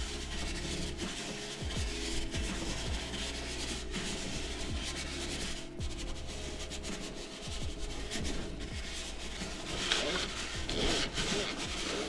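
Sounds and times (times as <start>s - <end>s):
brush scrubbing wet metal: 0.0s - 12.0s.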